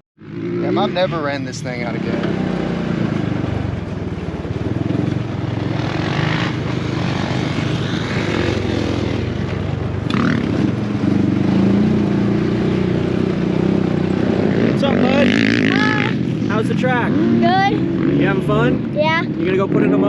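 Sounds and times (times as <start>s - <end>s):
dirt bike engine running: 0.2s - 20.0s.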